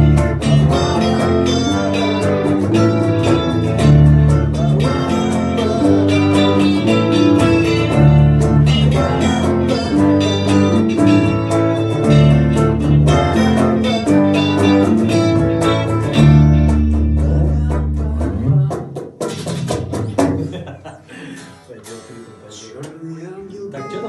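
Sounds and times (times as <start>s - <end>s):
bass guitar: 0.0s - 22.9s
guitar strumming: 0.0s - 24.0s.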